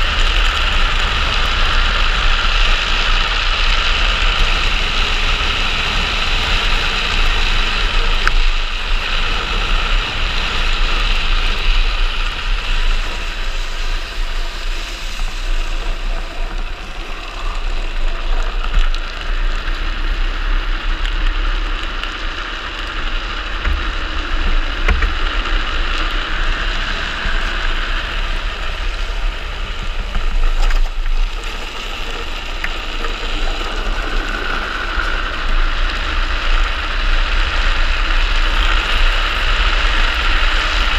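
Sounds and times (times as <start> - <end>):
wheels rolling on asphalt: 0.0 - 40.9
wind rushing over camera: 0.0 - 40.9.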